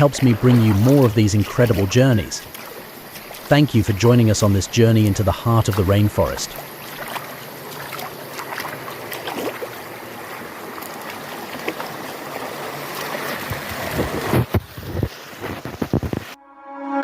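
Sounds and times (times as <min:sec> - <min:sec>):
small water splashes: 0:00.0 - 0:15.4
stream flowing over rocks: 0:00.0 - 0:15.9.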